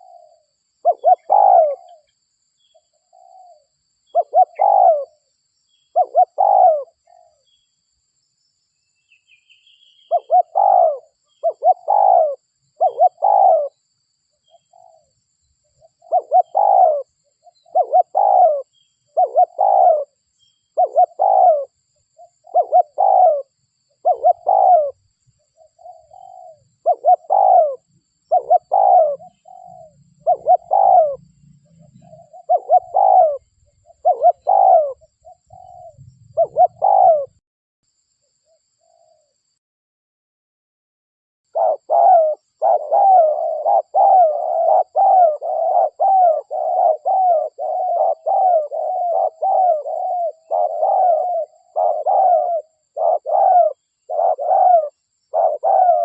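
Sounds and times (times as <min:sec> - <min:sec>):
dove cooing: 0:00.0 - 0:07.4, 0:09.8 - 0:13.8, 0:14.4 - 0:15.2, 0:15.8 - 0:20.2, 0:20.8 - 0:37.4, 0:41.5 - 0:56.0.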